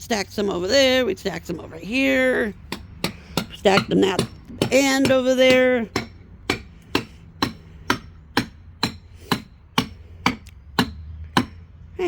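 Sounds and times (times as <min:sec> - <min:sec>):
hammer striking wedges: 0:01.8 - 0:11.6.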